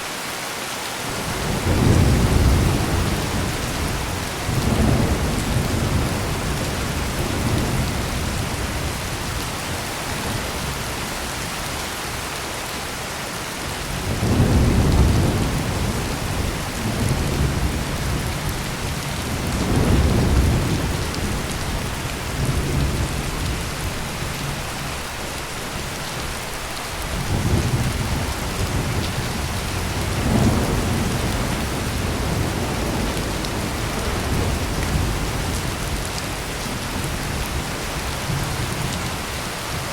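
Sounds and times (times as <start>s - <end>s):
heavy rain pouring: 0.0s - 39.9s
rolling thunder: 1.1s - 10.9s, 13.9s - 39.1s.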